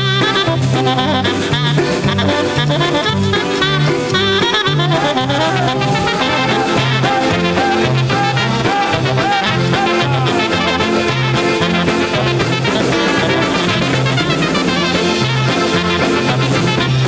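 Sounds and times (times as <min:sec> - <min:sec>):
polka band playing: 0:00.0 - 0:17.0.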